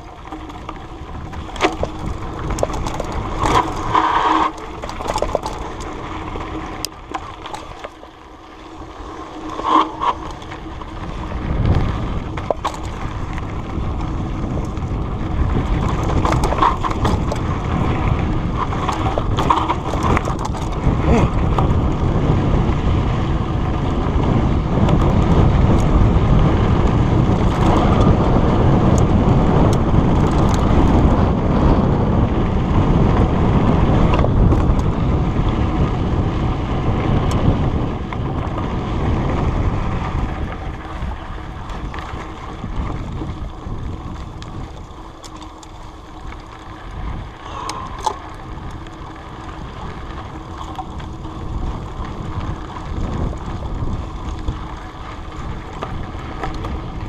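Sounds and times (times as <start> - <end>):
rumble and rattles of riding: 0.0 - 57.0
wind buffeting camera: 0.0 - 57.0.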